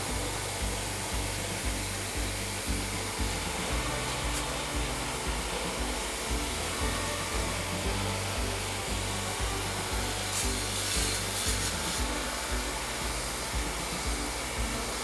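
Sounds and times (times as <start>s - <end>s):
background music with steady beat: 0.0s - 15.0s
whirring blowing noise: 0.0s - 15.0s.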